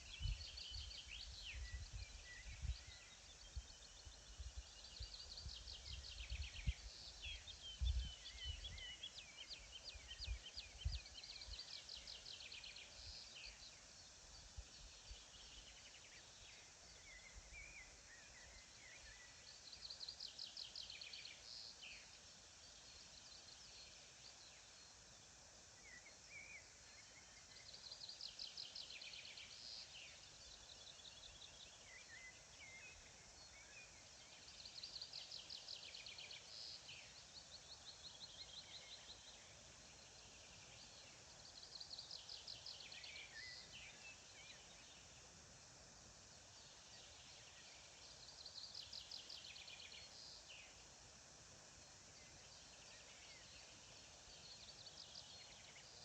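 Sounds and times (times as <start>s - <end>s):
songbirds singing trills: 0.0s - 56.0s.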